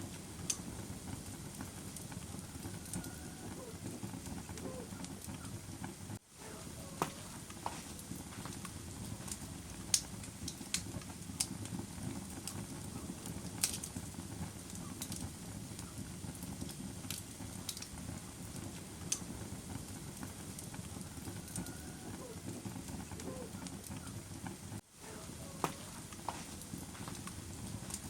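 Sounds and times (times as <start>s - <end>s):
fire crackles and pops: 0.0s - 28.0s
low rush of flames: 0.0s - 28.0s.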